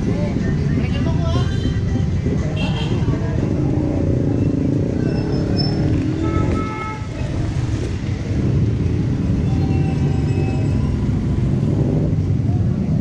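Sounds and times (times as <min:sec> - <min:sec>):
crowd hubbub: 0:00.0 - 0:13.0
road traffic: 0:00.0 - 0:13.0.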